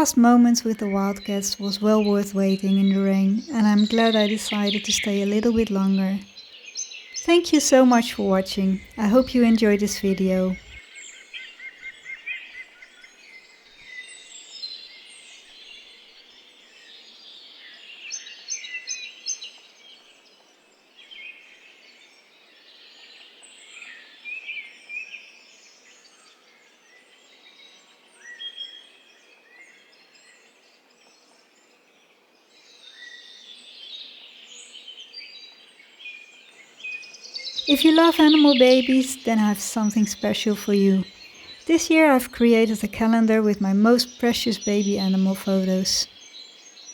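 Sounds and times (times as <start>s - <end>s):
faint outdoor hiss: 0.0s - 46.9s
songbirds singing: 0.0s - 46.9s.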